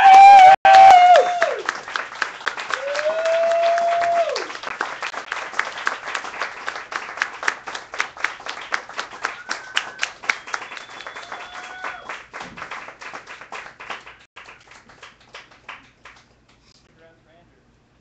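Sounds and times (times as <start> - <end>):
audience clapping: 0.0 - 16.7.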